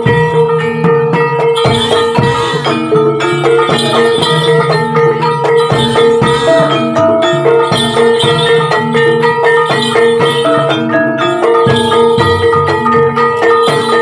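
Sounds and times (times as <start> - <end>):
ringing metallophone: 0.0 - 14.0
steady held pitch: 0.0 - 14.0.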